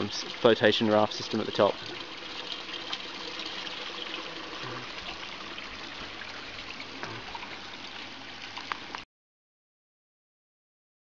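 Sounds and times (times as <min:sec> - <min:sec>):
faint water splashes: 0:00.0 - 0:09.0
water trickling: 0:00.0 - 0:09.0.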